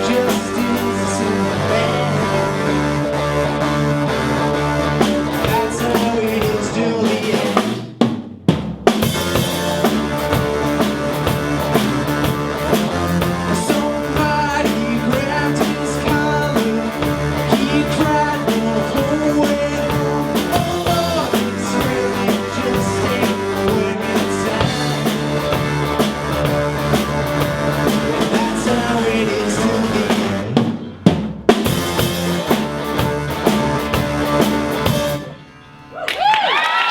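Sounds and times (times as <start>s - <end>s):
rock band playing live: 0.0s - 8.2s, 8.8s - 35.9s
drum kit: 0.0s - 35.4s.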